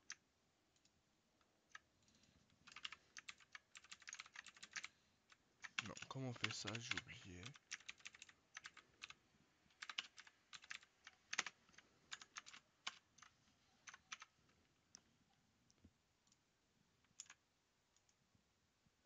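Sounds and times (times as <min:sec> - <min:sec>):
faint keyboard typing: 0:00.0 - 0:18.3.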